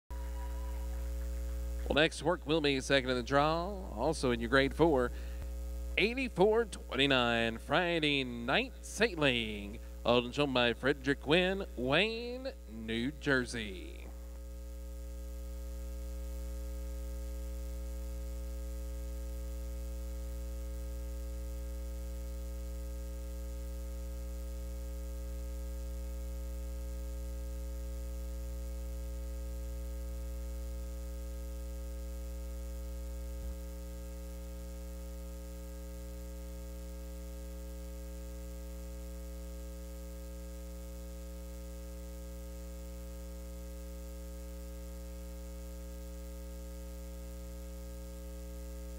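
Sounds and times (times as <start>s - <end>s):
electrical mains hum: 0.1s - 48.9s.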